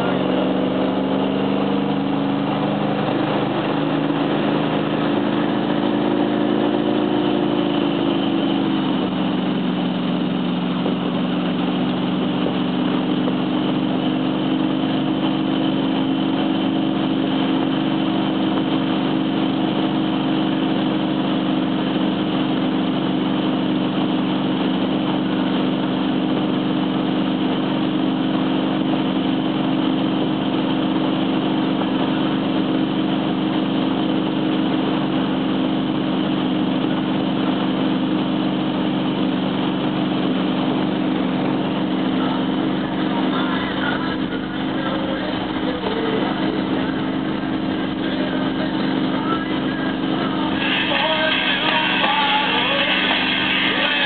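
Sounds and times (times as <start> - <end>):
boat wake rushing: 0.0 - 54.0
motorboat engine running: 0.0 - 54.0.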